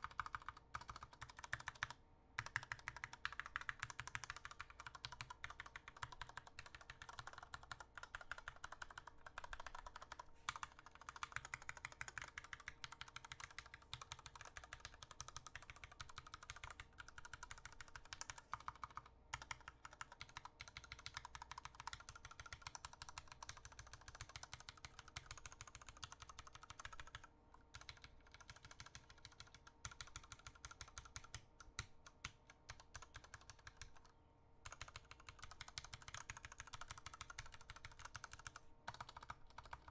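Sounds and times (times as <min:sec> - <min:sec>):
mechanical keyboard keys clacking: 0:00.0 - 0:34.1, 0:34.7 - 0:39.9.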